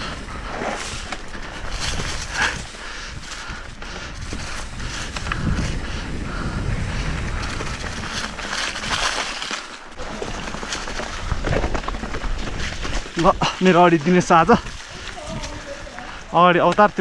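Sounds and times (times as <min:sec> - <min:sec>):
bike frame rattling: 0:00.0 - 0:16.8
bike tyres crunching on dirt: 0:00.0 - 0:17.0.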